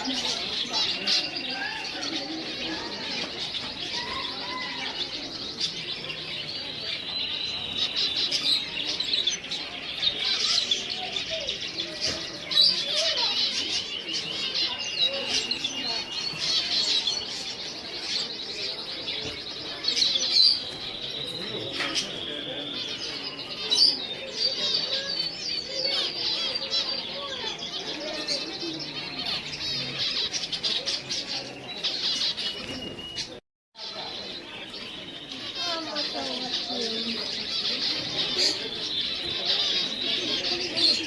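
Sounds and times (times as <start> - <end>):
sharp bird calls: 0.0 - 41.0
small birds chirping: 0.0 - 41.0.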